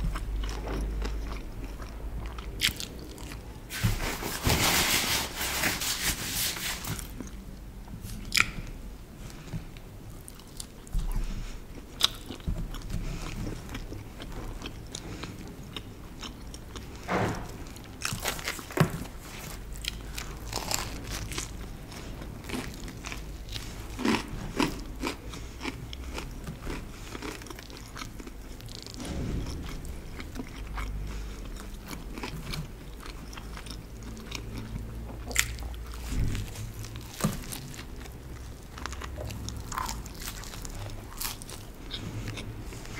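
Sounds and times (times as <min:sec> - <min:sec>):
chewing and biting bread: 0:00.0 - 0:04.8, 0:09.3 - 0:42.9.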